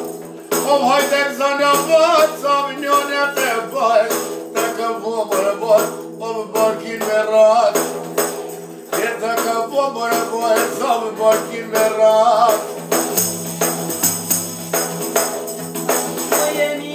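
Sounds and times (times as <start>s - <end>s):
person singing folk song: 0.0s - 16.9s
tambourine-like percussion strokes: 0.0s - 16.9s.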